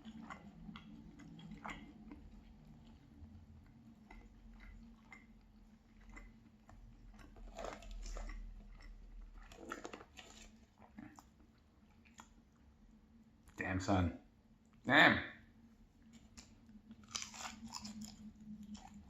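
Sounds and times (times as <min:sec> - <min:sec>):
chewing crunches: 0:00.0 - 0:12.8, 0:16.0 - 0:19.0.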